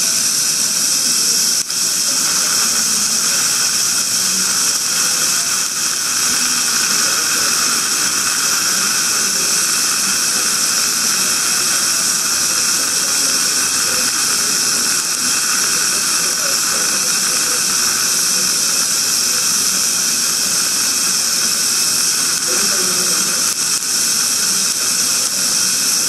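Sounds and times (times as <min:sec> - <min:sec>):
dental suction hiss: 0:00.0 - 0:26.0.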